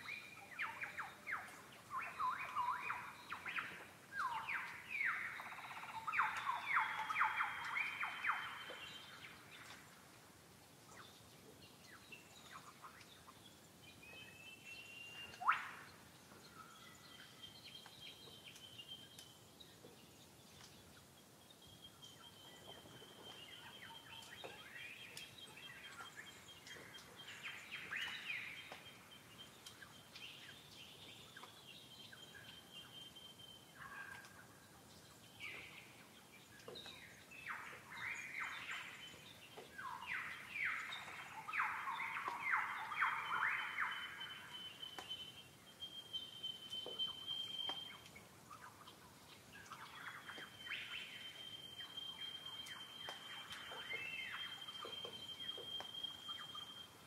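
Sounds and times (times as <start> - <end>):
birds chirping and calling: 0.0 - 9.8, 10.9 - 19.3, 20.6 - 57.0.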